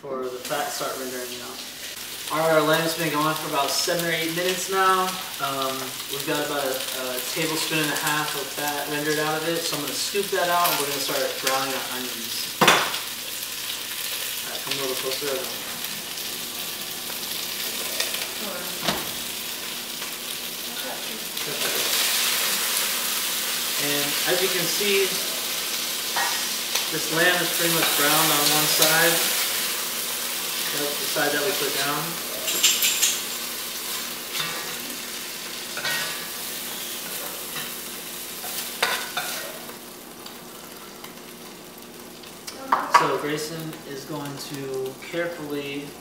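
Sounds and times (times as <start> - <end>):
meat sizzling in a pot: 0.0 - 46.0.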